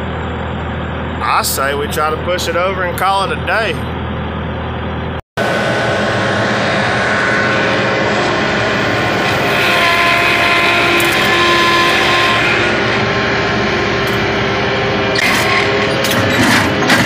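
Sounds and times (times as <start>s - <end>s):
skid-steer loader engine drone: 0.0s - 17.0s.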